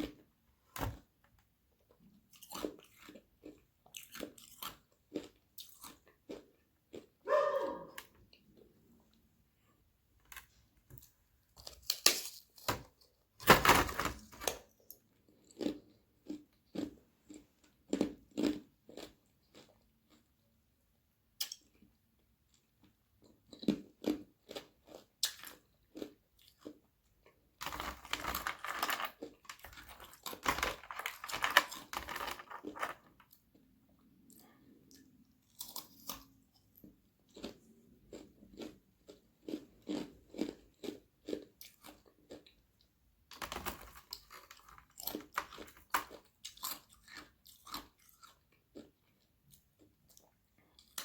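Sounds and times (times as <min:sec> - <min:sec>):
chewing crunchy ice: 0:02.0 - 0:08.7, 0:14.6 - 0:20.4, 0:22.5 - 0:51.0.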